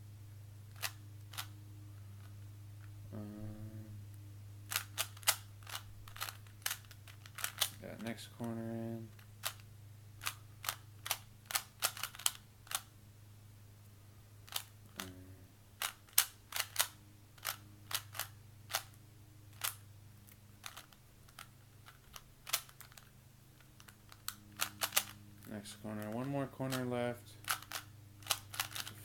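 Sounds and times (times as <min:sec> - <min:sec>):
puzzle cube clicking: 0:00.7 - 0:01.6, 0:04.6 - 0:12.9, 0:14.4 - 0:29.0.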